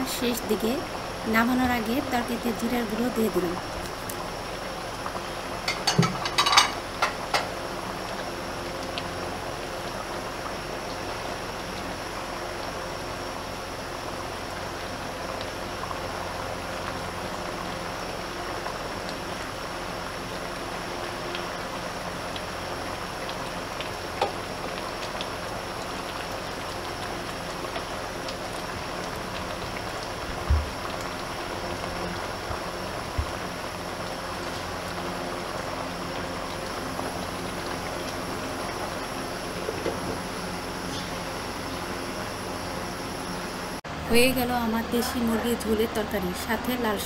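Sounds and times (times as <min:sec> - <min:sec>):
curry bubbling in a pot: 0:00.0 - 0:43.7.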